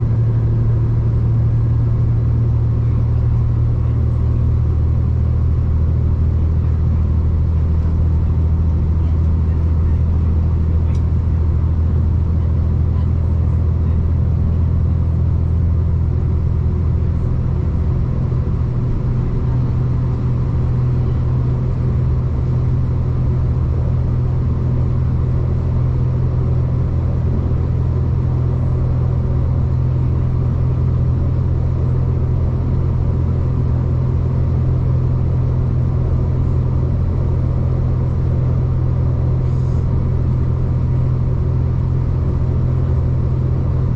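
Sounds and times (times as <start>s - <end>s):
diesel train rumbling: 0.0s - 43.9s
train engine drone: 0.0s - 43.9s.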